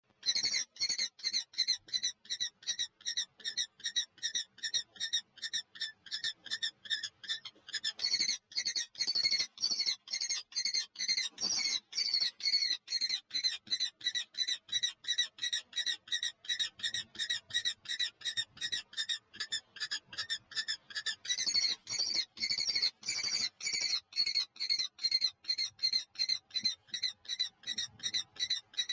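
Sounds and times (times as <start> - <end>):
nestling birds chirping: 0.1 - 28.9.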